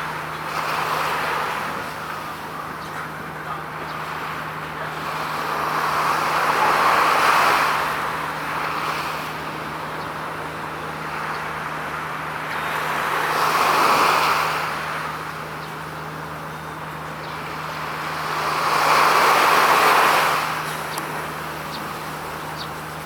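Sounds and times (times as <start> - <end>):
road vehicles passing: 0.0 - 23.0
steady low hum: 0.0 - 23.0.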